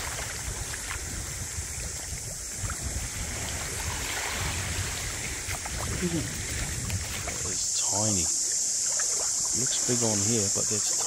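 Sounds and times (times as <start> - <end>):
wind rumbling on microphone: 0.0 - 10.8
small waves lapping on sand: 0.0 - 11.0.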